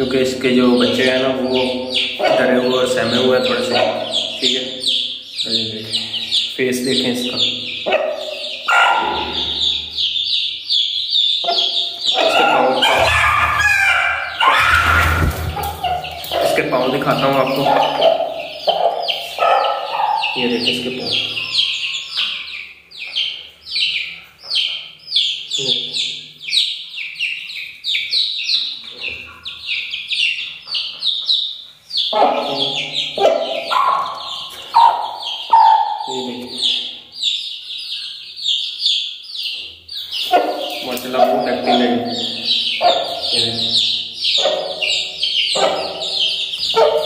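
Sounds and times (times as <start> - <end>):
chicks peeping: 0.0 - 47.0
lower longer bird calls: 1.5 - 47.0.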